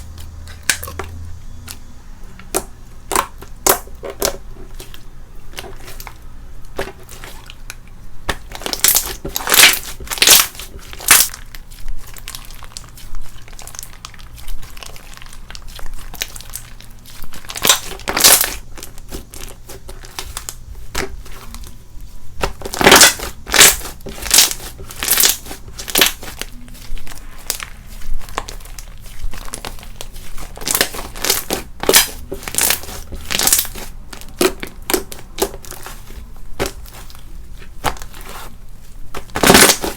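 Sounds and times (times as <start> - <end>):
slime crackling and popping: 2.4 - 38.5, 39.1 - 39.9.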